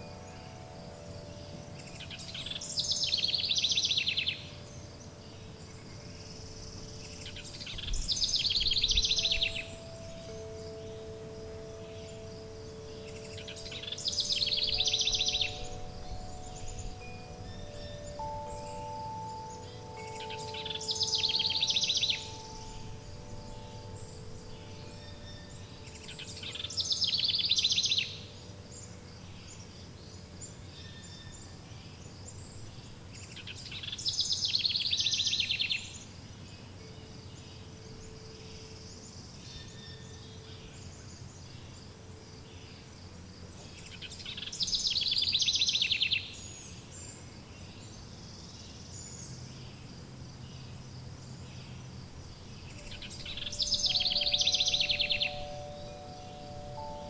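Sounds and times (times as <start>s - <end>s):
songbird trilling: 0.0s - 36.2s, 43.6s - 57.0s
outdoor ambience: 0.0s - 57.0s
wind chimes: 0.0s - 57.0s.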